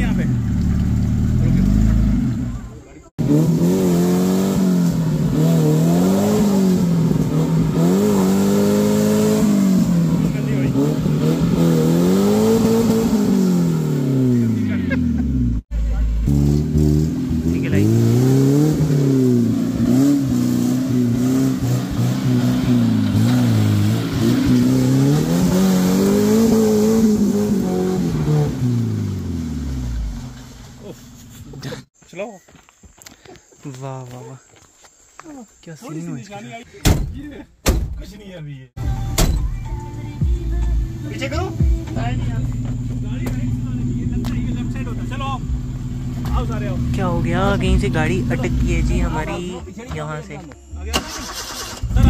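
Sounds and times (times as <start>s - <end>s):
car engine revving: 0.0s - 31.8s, 38.9s - 52.0s.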